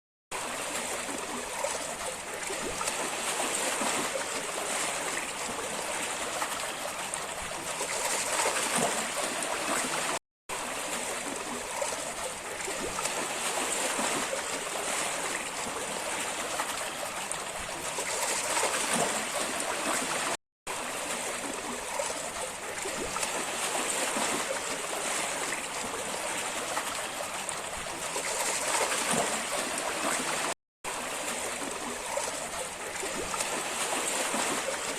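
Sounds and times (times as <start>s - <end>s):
water rushing and splashing: 0.3s - 34.9s.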